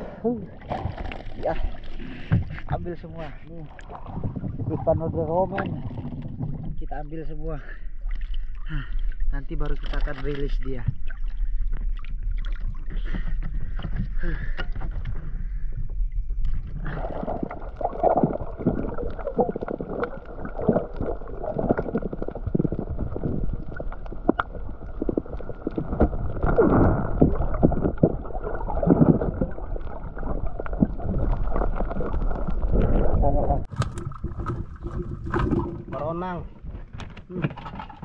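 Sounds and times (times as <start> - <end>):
muffled underwater bubbling: 0.0 - 7.1, 7.8 - 38.0.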